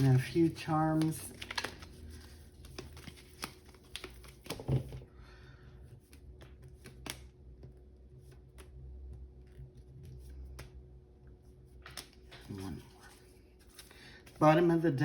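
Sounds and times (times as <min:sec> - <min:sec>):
cards being shuffled: 0:00.0 - 0:05.1, 0:05.9 - 0:10.8, 0:11.4 - 0:14.5.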